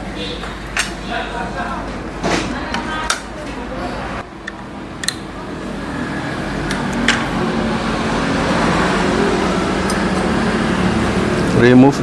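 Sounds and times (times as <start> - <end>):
fan humming: 0.0 - 12.0.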